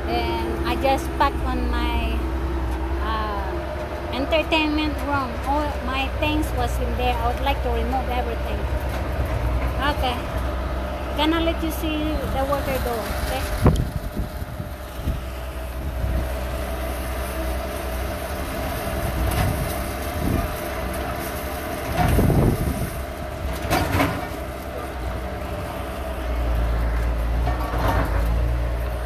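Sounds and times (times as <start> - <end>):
loader engine running: 0.0 - 29.0.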